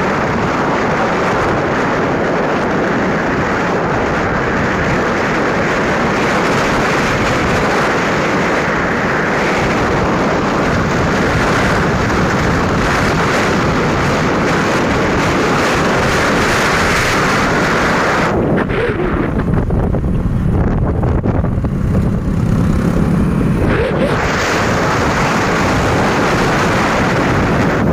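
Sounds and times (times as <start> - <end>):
road noise: 0.0 - 27.9
wind on microphone: 0.0 - 27.9.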